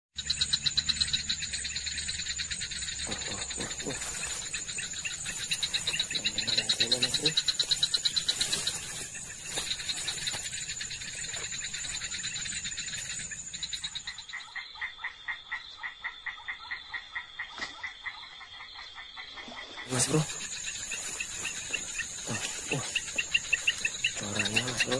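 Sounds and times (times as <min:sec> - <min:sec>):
frog croaking: 0:00.2 - 0:24.9
insects trilling: 0:00.2 - 0:24.9.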